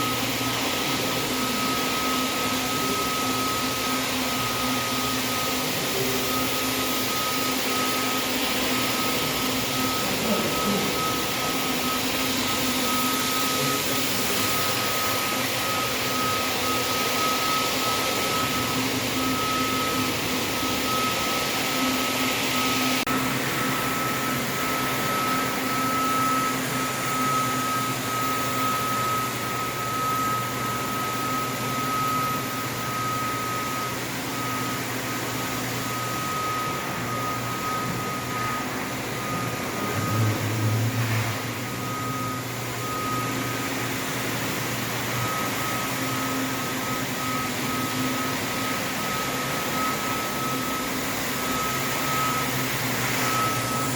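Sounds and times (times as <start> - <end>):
floor-cleaning machine motor whine: 0.0 - 53.9.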